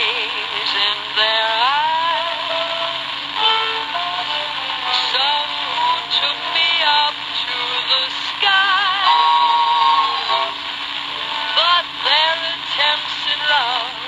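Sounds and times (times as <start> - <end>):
person singing with vibrato: 0.0 - 14.0
radio hiss: 0.0 - 14.0
radio music: 0.0 - 14.0.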